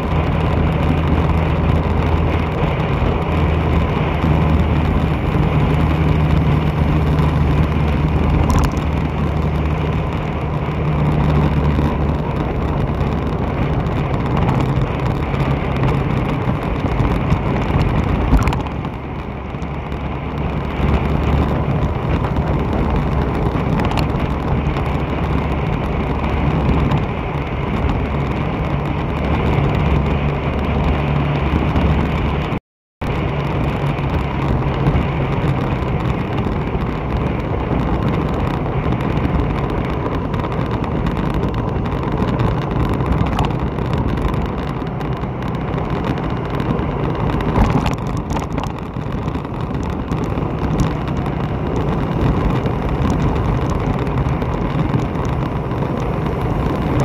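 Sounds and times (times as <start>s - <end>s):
motorbike engine hum: 0.0s - 57.0s
road and wind noise: 0.0s - 57.0s.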